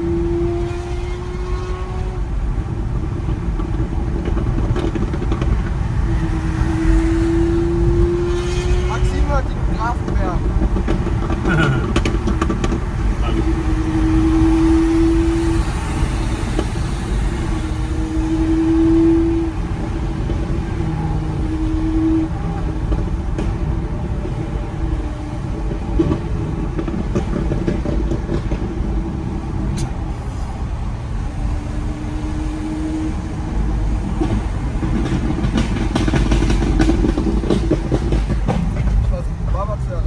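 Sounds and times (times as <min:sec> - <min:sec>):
car engine running: 0:00.0 - 0:40.0
city street traffic: 0:00.0 - 0:40.0.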